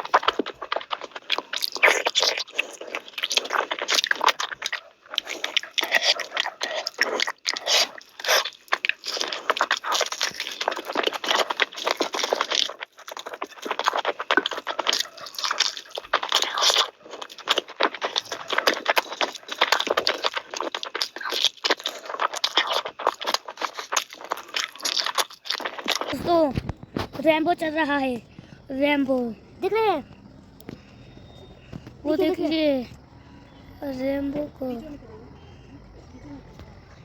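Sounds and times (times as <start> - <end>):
close-miked chewing: 0.0 - 37.0.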